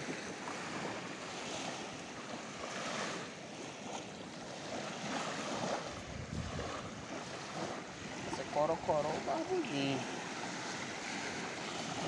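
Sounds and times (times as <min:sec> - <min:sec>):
surf washing on beach: 0:00.0 - 0:12.0
wind rumble on microphone: 0:00.0 - 0:12.0.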